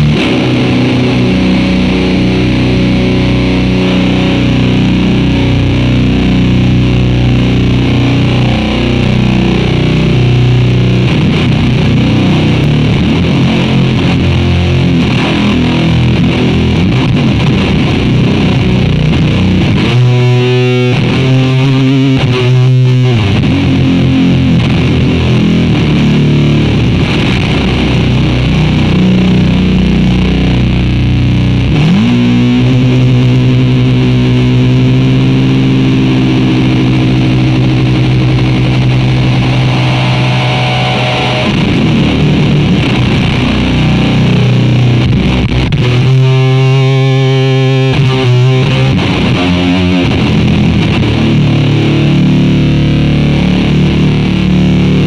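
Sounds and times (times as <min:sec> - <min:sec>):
distorted electric guitar chords: 0:00.0 - 0:55.0.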